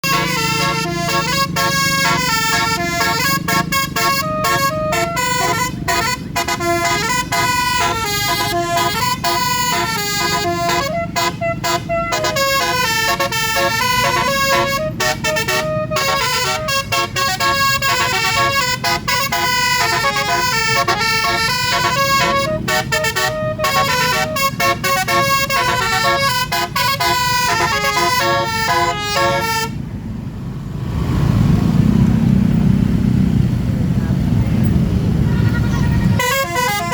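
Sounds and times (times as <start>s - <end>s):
musical horn playing a tune: 0.0s - 29.8s, 36.2s - 36.9s
vehicle engine rumble: 0.0s - 36.9s.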